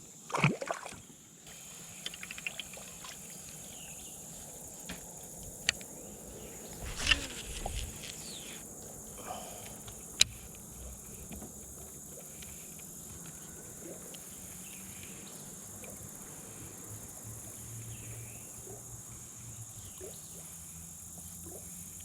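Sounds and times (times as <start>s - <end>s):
high-pitched insect chorus: 1.2s - 22.0s.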